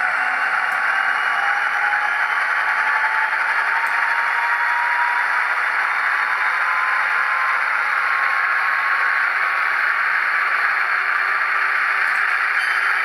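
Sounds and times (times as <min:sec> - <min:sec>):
diesel engine drone from small speaker: 0:00.0 - 0:13.0.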